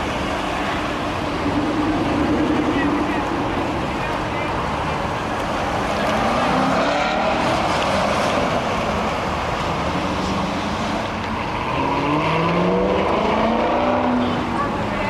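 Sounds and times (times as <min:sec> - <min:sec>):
car engines accelerating: 0:00.0 - 0:15.0.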